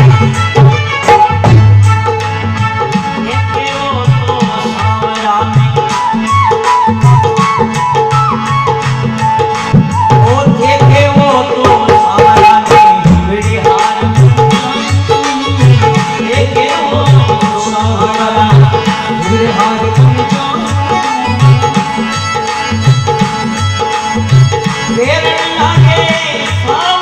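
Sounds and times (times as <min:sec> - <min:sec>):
dholak drumming: 0:00.0 - 0:27.0.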